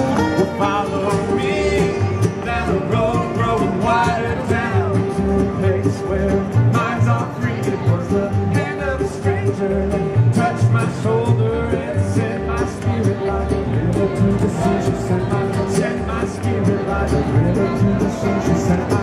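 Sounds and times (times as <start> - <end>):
bluegrass band playing: 0.0 - 19.0
upright bass beat: 0.0 - 19.0.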